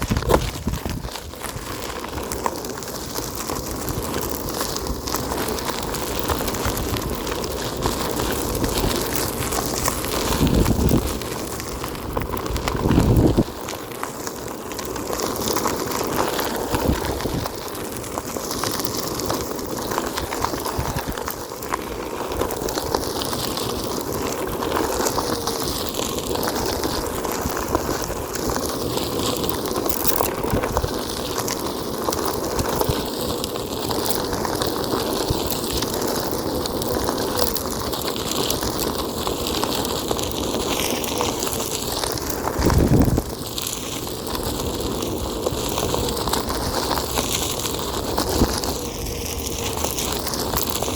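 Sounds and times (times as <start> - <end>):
electric board tyre rolling: 0.0 - 50.9.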